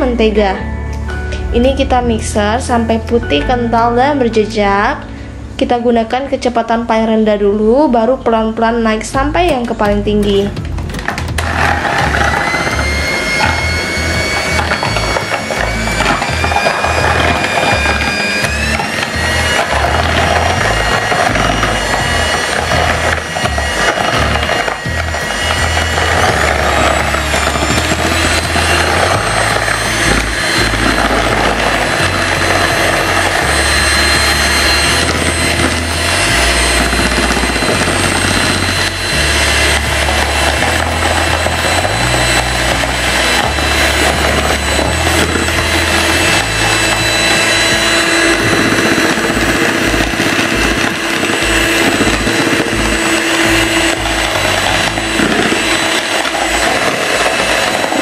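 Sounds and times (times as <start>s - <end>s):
background music with bass line: 9.1s - 55.9s
electric hand mixer running: 9.9s - 58.0s.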